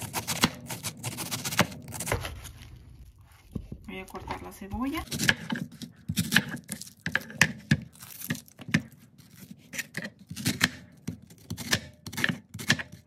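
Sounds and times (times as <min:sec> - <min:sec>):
knife cutting onion on board: 0:00.0 - 0:02.6, 0:04.6 - 0:13.0
dry onion skin crackling: 0:00.0 - 0:13.0.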